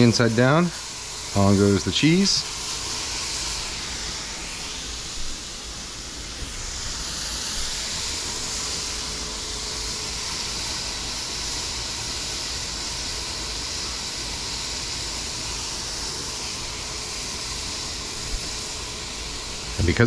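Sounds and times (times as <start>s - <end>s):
burger patties sizzling on griddle: 0.0s - 20.0s.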